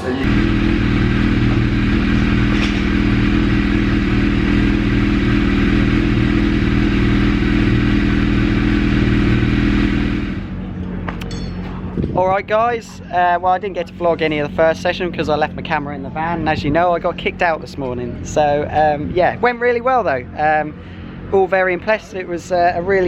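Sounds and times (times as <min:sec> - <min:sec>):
loud engine running steadily: 0:00.0 - 0:23.0.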